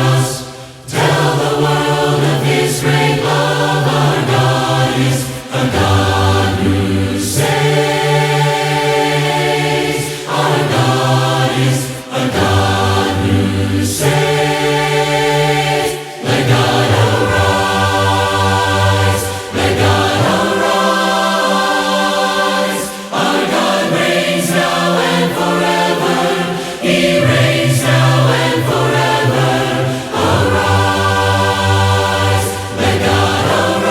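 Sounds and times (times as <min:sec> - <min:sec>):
choir singing a cappella: 0:00.0 - 0:33.9.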